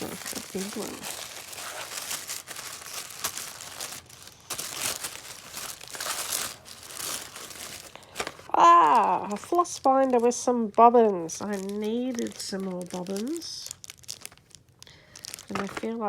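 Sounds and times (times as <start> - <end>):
package wrapping rustling: 0.0 - 16.0.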